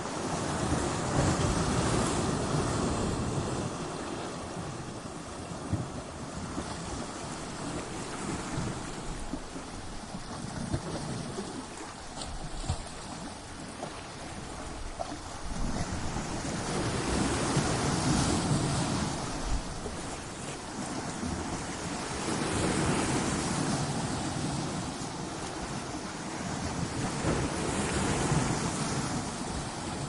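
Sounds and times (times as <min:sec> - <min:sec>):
ocean waves breaking on rocks: 0:00.0 - 0:30.0
wind: 0:00.0 - 0:30.0.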